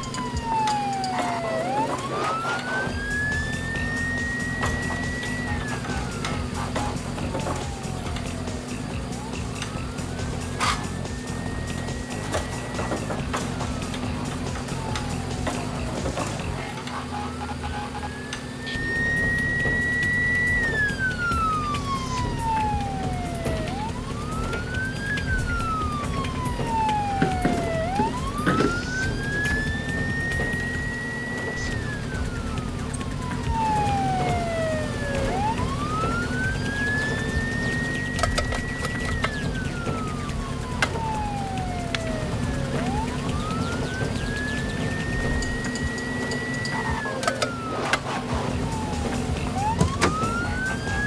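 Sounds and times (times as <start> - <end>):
siren wailing: 0.0 - 51.0
steady low hum: 0.0 - 51.0.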